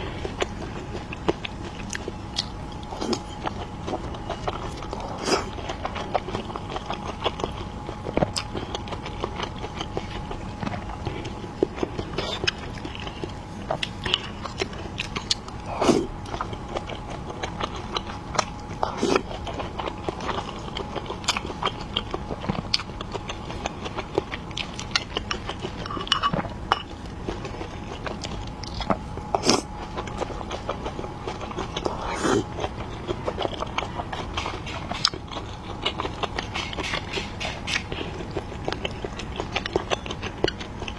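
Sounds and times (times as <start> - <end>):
faint steady hum: 0.0 - 40.9
person chewing and biting: 0.0 - 40.9.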